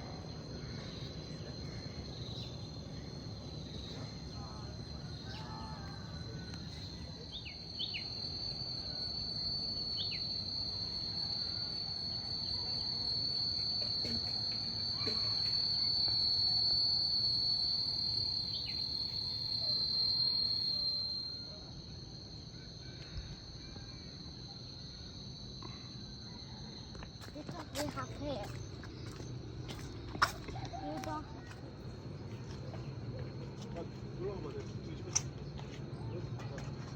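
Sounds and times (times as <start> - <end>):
insects buzzing: 0.0 - 36.9.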